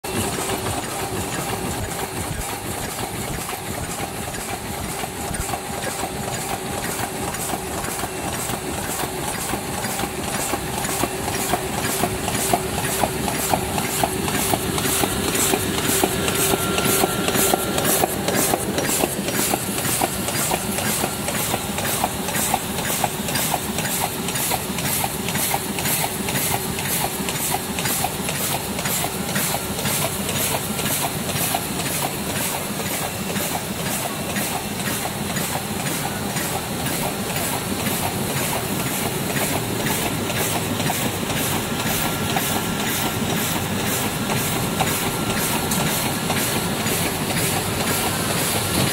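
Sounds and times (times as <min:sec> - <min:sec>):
rapid machine clacks: 0:00.0 - 0:48.9.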